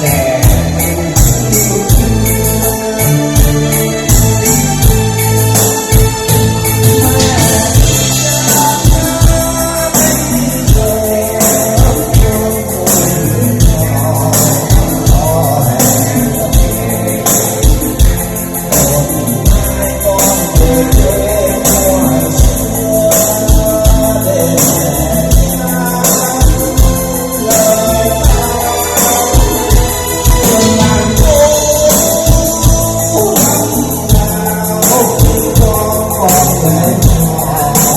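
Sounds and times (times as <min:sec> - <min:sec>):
ballad backing music: 0:00.0 - 0:37.9
song with kick-drum beat: 0:00.0 - 0:37.9.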